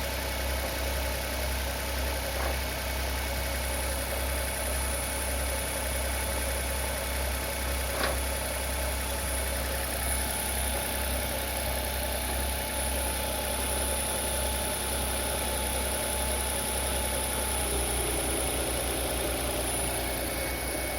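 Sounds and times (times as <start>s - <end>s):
generator engine running: 0.0s - 20.9s.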